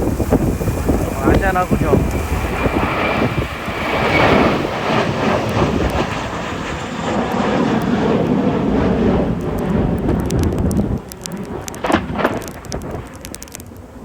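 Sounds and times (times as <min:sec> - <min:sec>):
faint high whine: 0:00.0 - 0:14.0
jet airliner roaring at takeoff: 0:00.0 - 0:14.0
wind buffeting microphone: 0:00.0 - 0:14.0.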